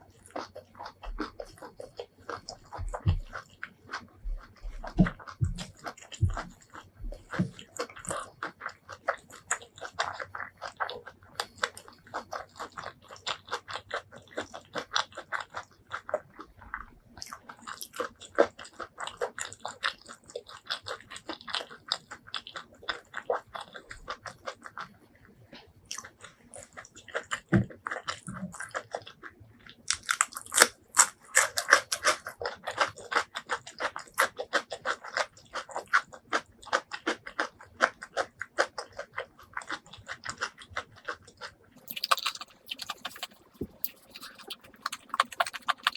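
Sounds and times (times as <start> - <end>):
rapid chewing and biting: 0.0 - 25.0, 25.6 - 45.9.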